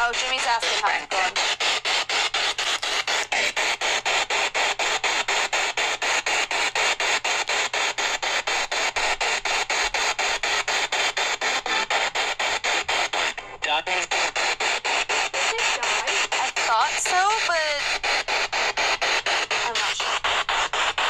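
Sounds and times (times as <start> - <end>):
radio static bursts: 0.0 - 21.0.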